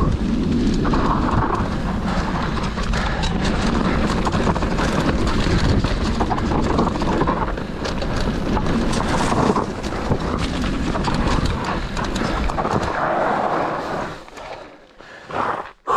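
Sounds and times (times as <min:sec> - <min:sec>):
bike rattling and knocking: 0:00.0 - 0:13.4
wind buffeting microphone: 0:00.0 - 0:14.2
bike tyres on gravel: 0:00.0 - 0:15.9.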